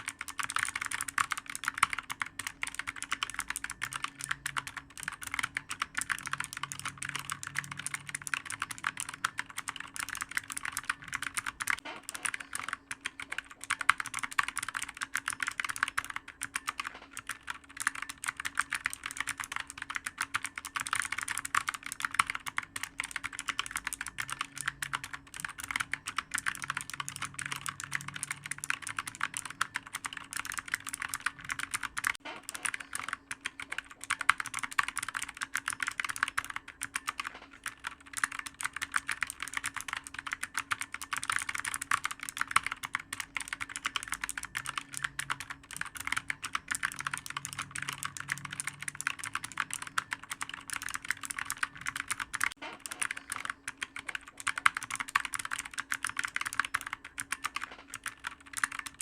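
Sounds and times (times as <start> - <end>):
fast typing on clicky keyboard: 0.0 - 59.0.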